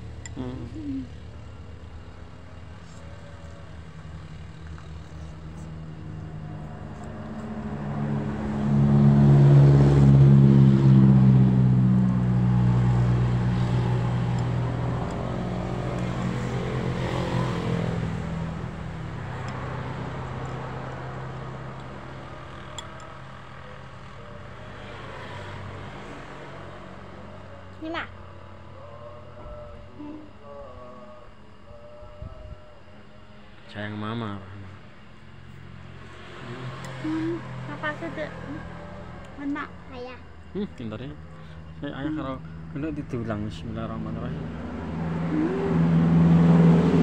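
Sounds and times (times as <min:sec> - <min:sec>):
vehicle engine passing: 0:00.0 - 0:31.0, 0:33.5 - 0:47.0.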